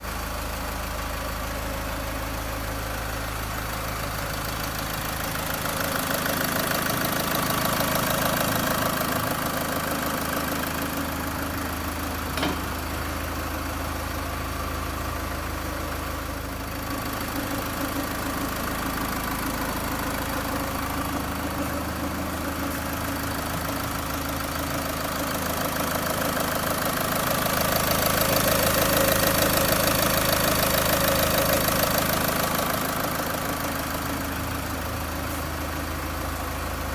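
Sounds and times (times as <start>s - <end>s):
car engine idling with knocking: 0.0s - 36.9s.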